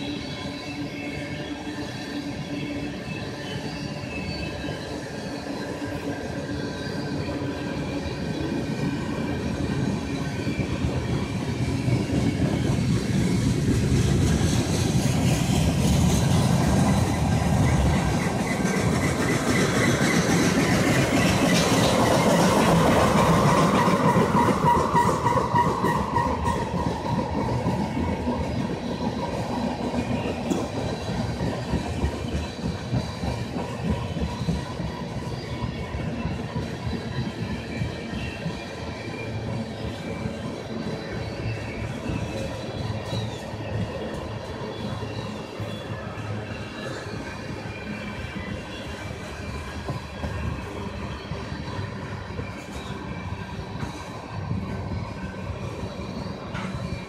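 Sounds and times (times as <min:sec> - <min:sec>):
ringing wheel squeal: 0:00.0 - 0:57.0
train wheels rumbling and clacking: 0:00.0 - 0:57.0.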